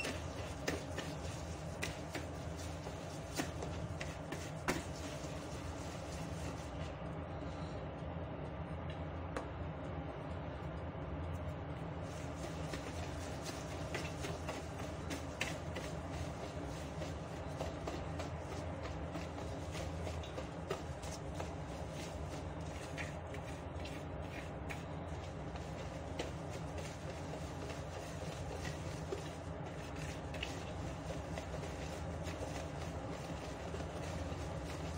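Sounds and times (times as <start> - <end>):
whisk beating in plastic bowl: 0.0 - 7.0, 12.0 - 34.9
steady low hum: 0.0 - 34.9.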